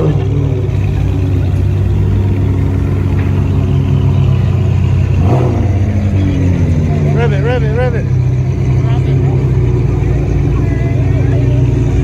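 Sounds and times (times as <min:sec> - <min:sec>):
car engines rumbling: 0:00.0 - 0:12.0.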